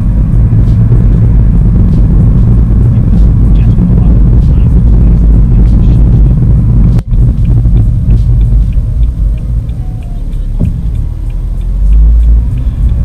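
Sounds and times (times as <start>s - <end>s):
car engine and road noise: 0.0s - 13.0s
faint even ticking: 2.1s - 13.0s.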